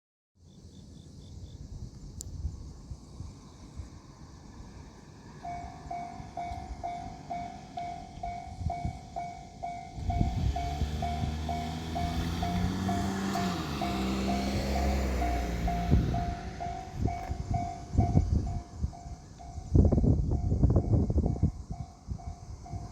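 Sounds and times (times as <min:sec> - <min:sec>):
train rumble: 0:01.6 - 0:22.9.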